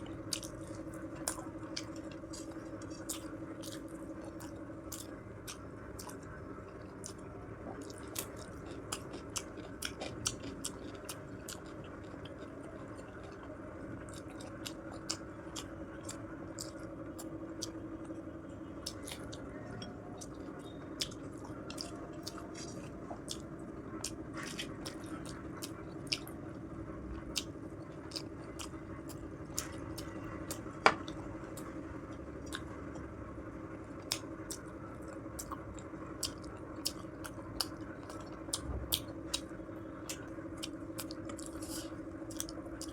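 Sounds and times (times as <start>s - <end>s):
person chewing food: 0.0s - 33.1s, 34.0s - 42.9s.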